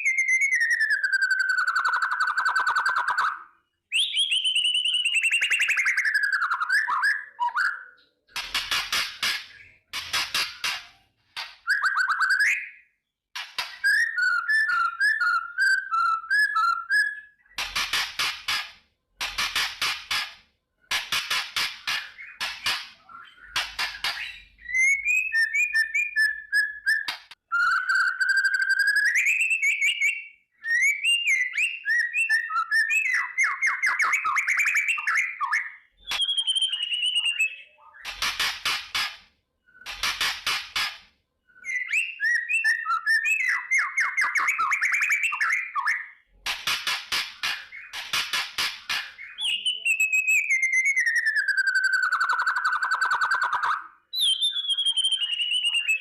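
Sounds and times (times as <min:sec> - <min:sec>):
bird whistling and warbling: 0:00.0 - 0:20.3, 0:21.3 - 0:46.2, 0:47.4 - 0:56.0.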